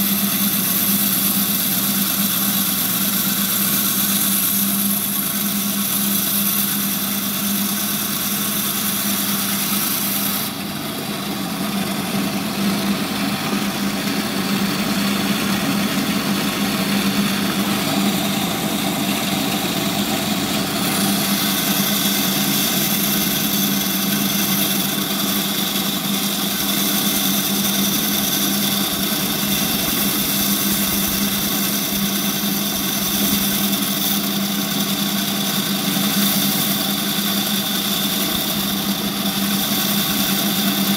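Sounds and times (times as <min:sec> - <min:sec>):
band saw humming: 0:00.0 - 0:40.9
high hiss of saw cutting: 0:00.0 - 0:40.9.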